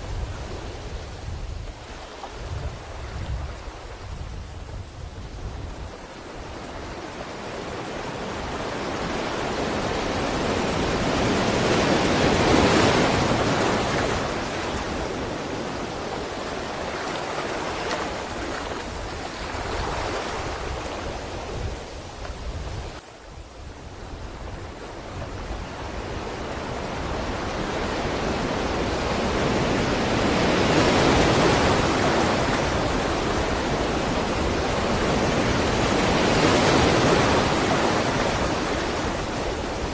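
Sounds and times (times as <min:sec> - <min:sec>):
ocean waves breaking: 0:05.3 - 0:39.9.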